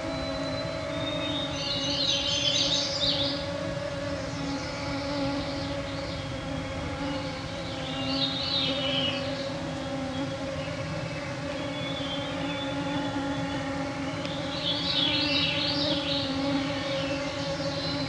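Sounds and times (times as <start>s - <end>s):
mosquitoes whining: 0.0s - 18.0s.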